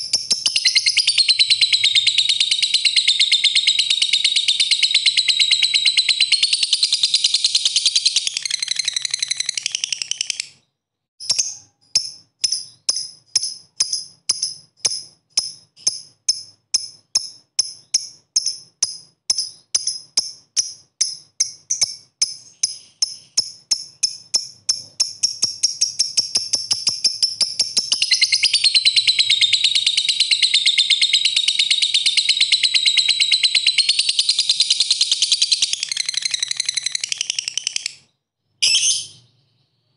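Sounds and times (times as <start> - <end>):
lovebird chattering trill: 0.0 - 10.6, 11.2 - 39.2.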